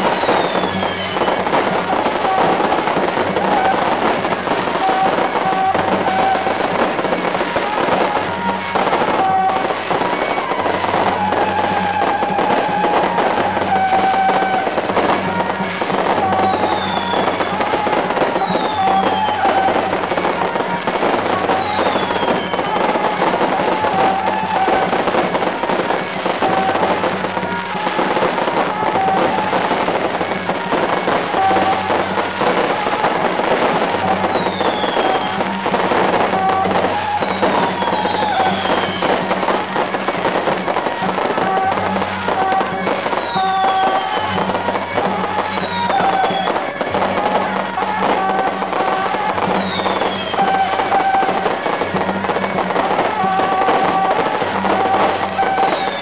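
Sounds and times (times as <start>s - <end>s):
firecrackers crackling: 0.0s - 56.0s
procession music with held notes: 0.0s - 56.0s.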